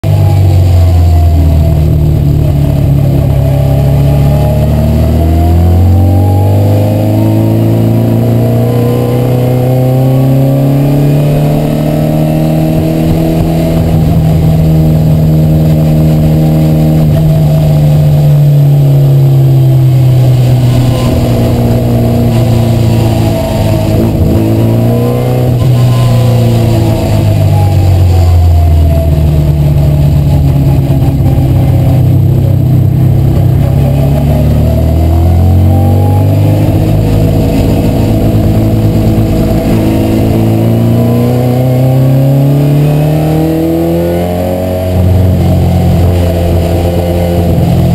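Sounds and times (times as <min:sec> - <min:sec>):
car engine revving under load: 0:00.0 - 0:47.9.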